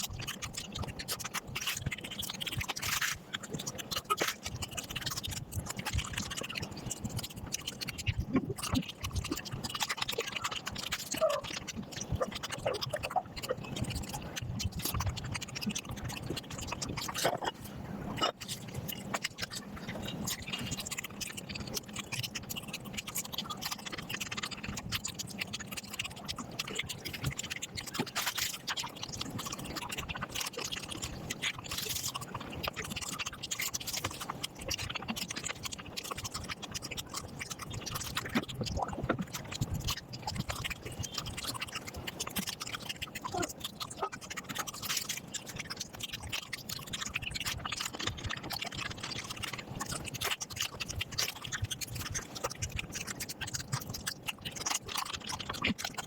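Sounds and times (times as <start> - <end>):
sped-up chewing and smacking: 0.0 - 56.0.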